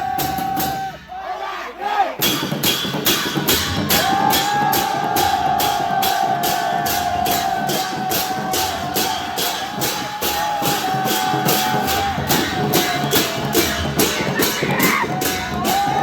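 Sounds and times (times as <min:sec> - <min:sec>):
cymbals clashing in an even beat: 0:00.0 - 0:01.3, 0:02.1 - 0:16.0.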